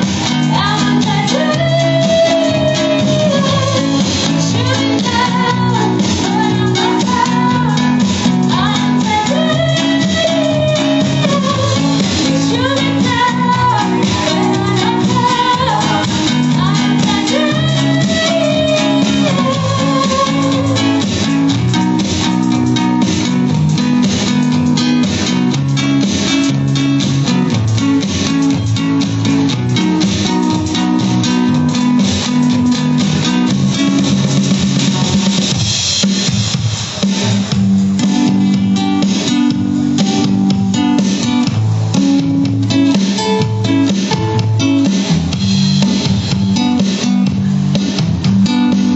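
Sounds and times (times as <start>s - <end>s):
instrumental guitar and drum music: 0.0s - 48.9s.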